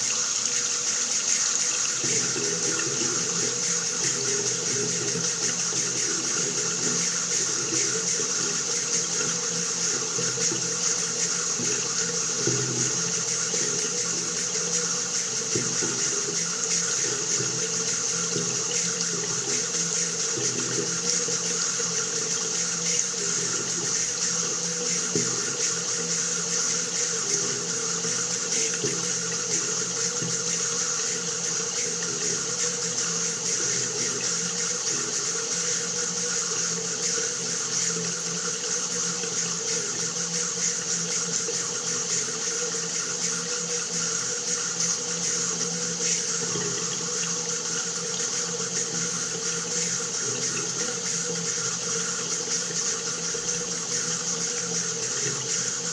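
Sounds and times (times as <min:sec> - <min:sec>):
tap water running into basin: 0:00.0 - 0:55.9.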